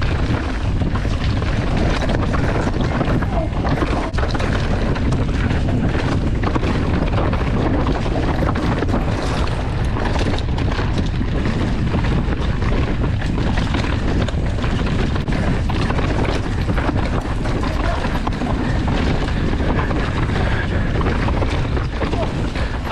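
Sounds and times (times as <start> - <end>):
bike tyres on dirt trail: 0.0 - 22.9
wind buffeting microphone: 0.0 - 22.9.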